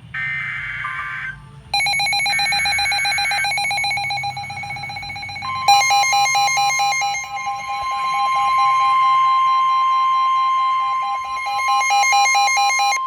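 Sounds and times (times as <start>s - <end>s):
steady high alarm tone: 0.2s - 13.0s
pulsing electronic beeping: 1.8s - 13.0s.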